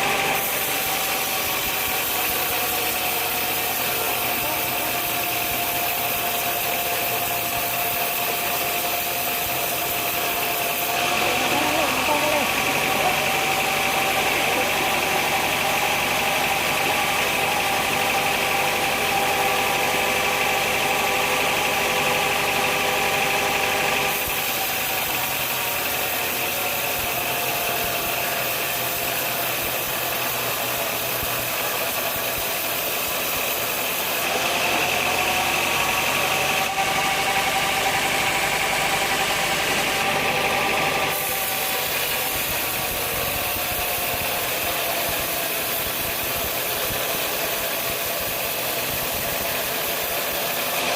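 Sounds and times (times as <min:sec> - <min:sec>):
sawmill machinery humming: 0:00.0 - 0:50.9.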